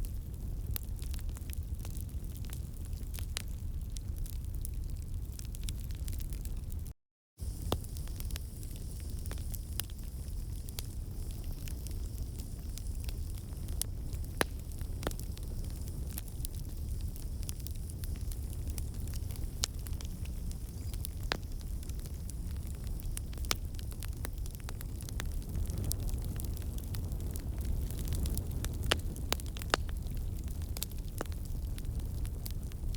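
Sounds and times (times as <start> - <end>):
fire crackling and popping: 0.0 - 32.9
fire rumbling in fireplace: 0.0 - 32.9.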